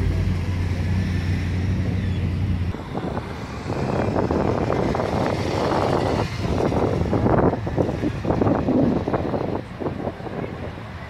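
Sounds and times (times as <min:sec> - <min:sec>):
motorcycle passing with rough rush: 0:00.0 - 0:10.0
low engine hum: 0:00.0 - 0:11.0.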